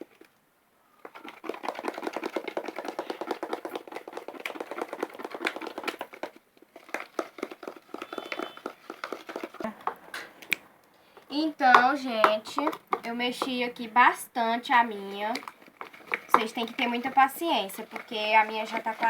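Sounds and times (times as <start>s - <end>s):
slime stirred with wet clicks: 1.0s - 13.8s, 14.6s - 19.0s.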